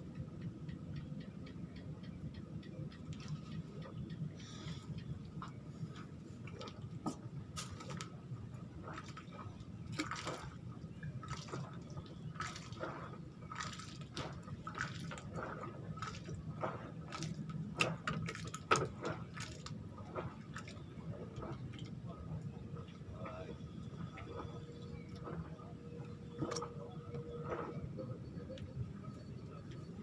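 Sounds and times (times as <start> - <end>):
low steady hum: 0.0 - 30.0
water lapping and dripping: 0.0 - 30.0.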